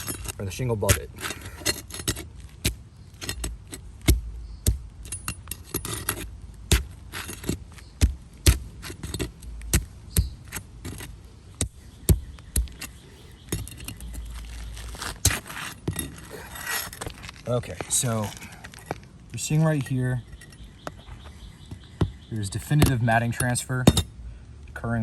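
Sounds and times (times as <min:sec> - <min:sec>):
pry bar cracking and scraping shingles: 0:00.0 - 0:20.9.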